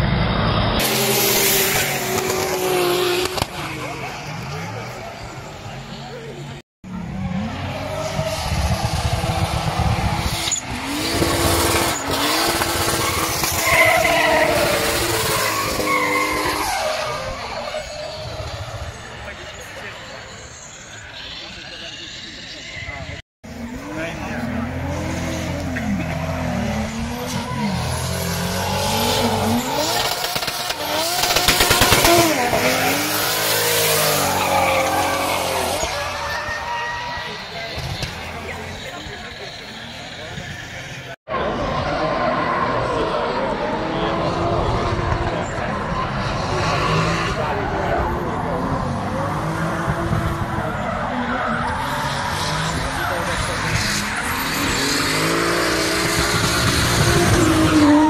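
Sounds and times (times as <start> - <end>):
car engine at high revs: 0.0 - 20.9, 23.4 - 36.4, 37.2 - 58.0.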